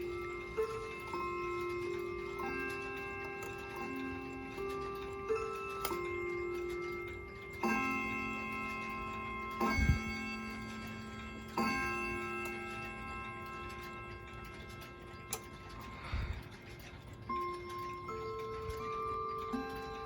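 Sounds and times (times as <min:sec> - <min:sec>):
clock chime bell notes: 0:00.0 - 0:20.0
clock ticking: 0:00.0 - 0:20.0.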